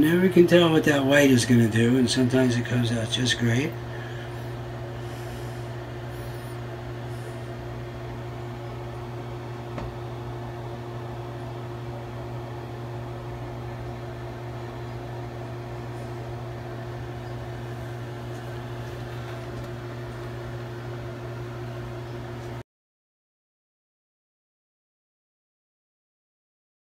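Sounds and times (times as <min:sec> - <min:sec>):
low machine hum: 0:00.0 - 0:22.6.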